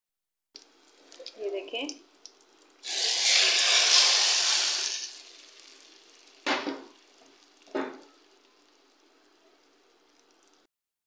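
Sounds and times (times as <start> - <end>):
hot oil sizzling: 0.6 - 10.7.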